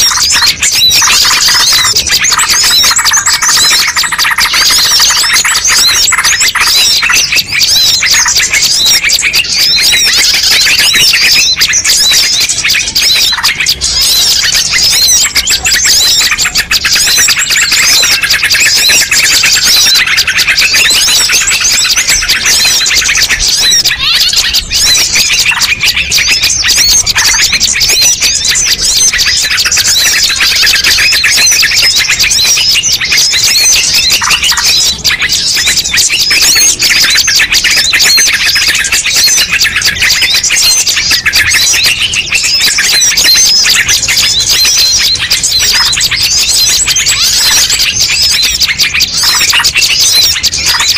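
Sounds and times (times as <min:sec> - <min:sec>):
songbirds chirping and twittering: 0:00.0 - 0:50.9.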